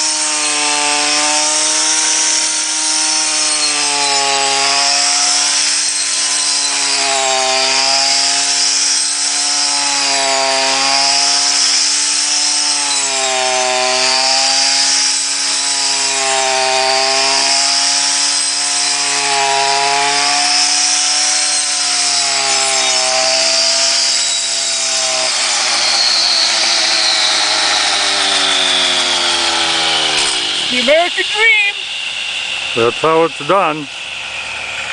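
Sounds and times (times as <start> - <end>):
small engine running at high revs: 0.0 - 34.9.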